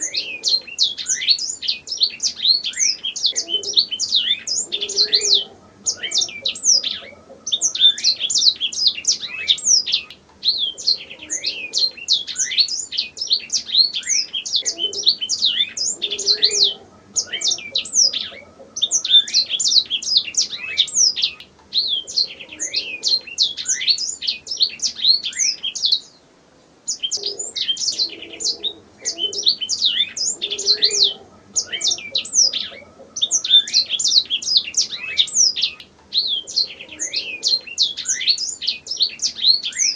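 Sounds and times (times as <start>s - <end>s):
canary singing chirps and trills: 0.0s - 26.2s, 26.8s - 39.9s.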